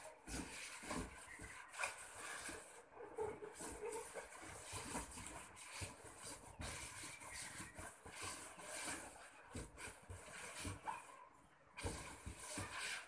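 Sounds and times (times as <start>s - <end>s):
balloons rubbing together: 0.0s - 13.0s.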